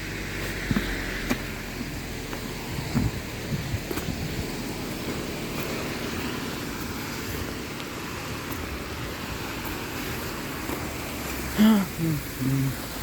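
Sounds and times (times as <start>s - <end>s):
traffic on a wet road: 0.0s - 13.0s.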